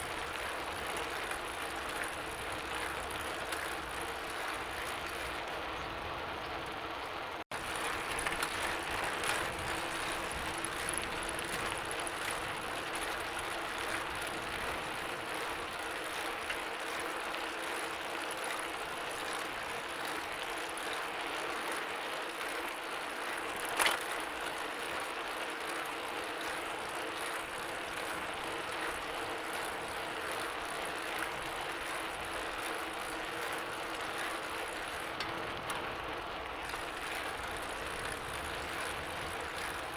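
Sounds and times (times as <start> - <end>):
bicycle chain ticking: 0.0 - 5.7, 7.6 - 39.9.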